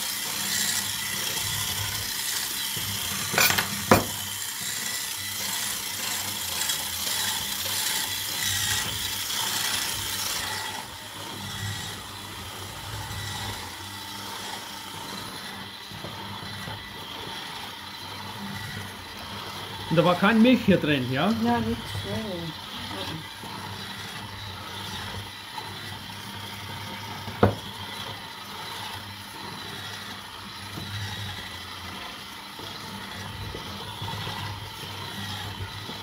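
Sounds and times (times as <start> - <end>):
electric hand mixer running: 0.0 - 36.0.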